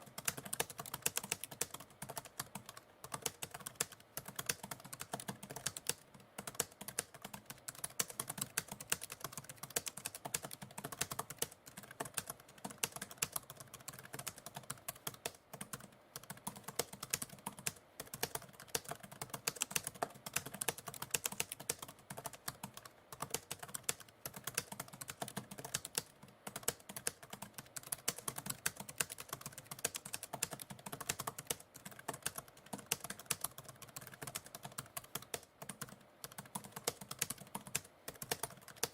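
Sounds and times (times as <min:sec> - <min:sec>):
typewriter keys typing: 0:00.0 - 0:38.9.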